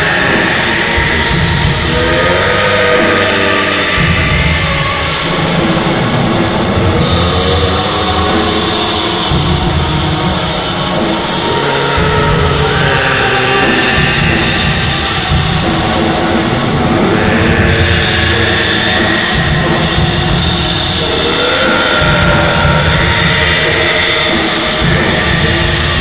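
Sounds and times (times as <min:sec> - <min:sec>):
distorted guitars: 0:00.0 - 0:26.0
drum kit playing: 0:00.0 - 0:26.0.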